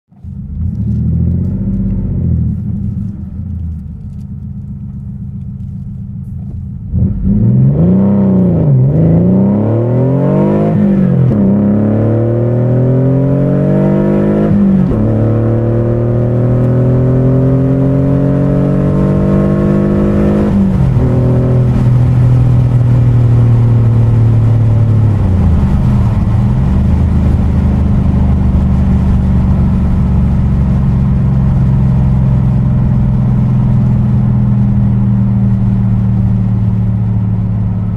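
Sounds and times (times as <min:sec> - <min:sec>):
car engine accelerating through gears: 0:00.1 - 0:37.9.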